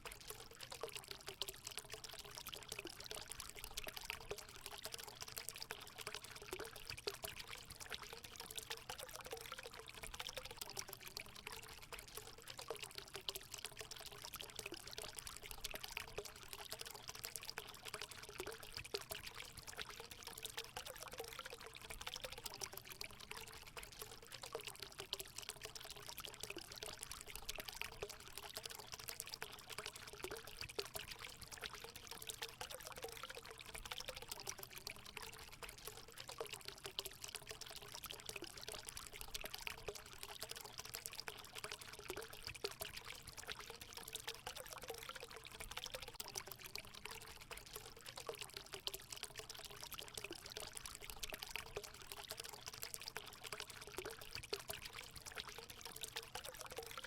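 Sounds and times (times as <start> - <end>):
water pouring into pool: 0.0 - 57.0.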